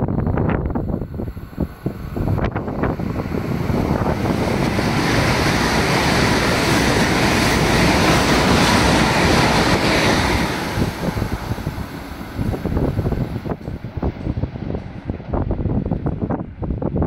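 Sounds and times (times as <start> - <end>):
high-speed train rushing past: 0.0 - 17.0.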